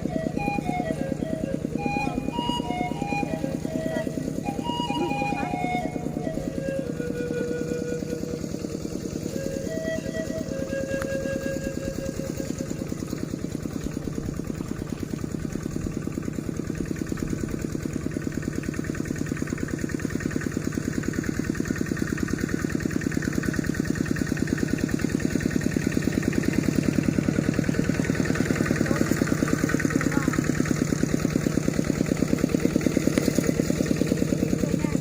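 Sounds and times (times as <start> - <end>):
small engine running: 0.0 - 35.0.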